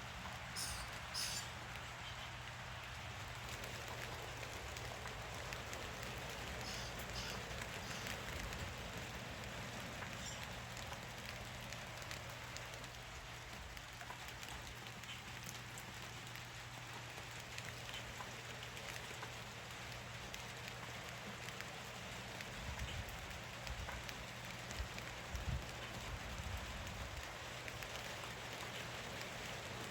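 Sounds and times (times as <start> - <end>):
rain falling: 0.0 - 29.9.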